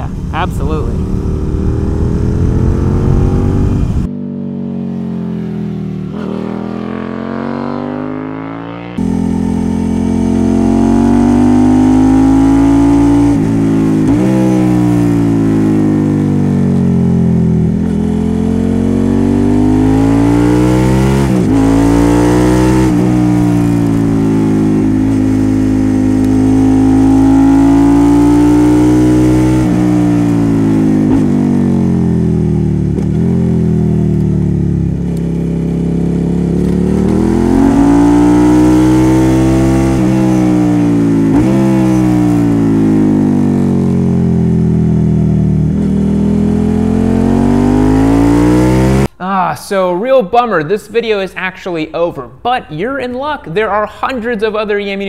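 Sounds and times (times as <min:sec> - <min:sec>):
motorcycle engine revving: 0:00.0 - 0:49.1.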